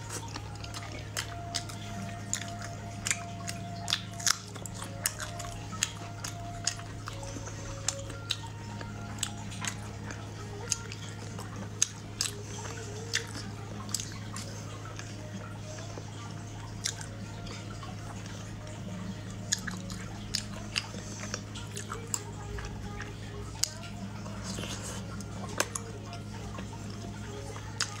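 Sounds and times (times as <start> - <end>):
close-up chewing: 0.0 - 28.0.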